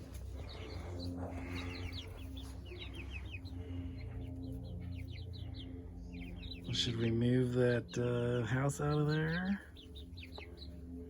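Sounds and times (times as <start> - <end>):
steady low hum: 0.0 - 11.0
young chickens peeping: 0.0 - 11.0.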